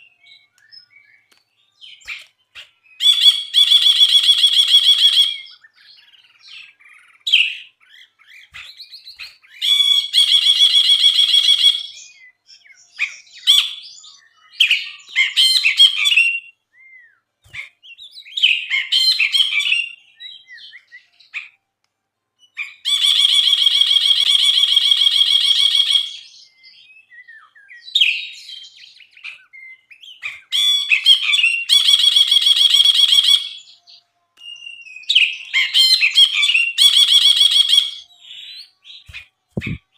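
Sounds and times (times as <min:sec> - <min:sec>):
bird chirping and whistling: 0:00.0 - 0:21.6, 0:22.4 - 0:39.9.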